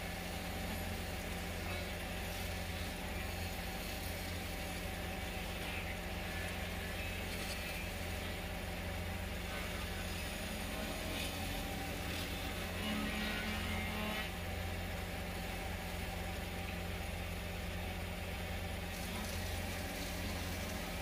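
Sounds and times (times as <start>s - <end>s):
wood lathe humming: 0.0s - 21.0s.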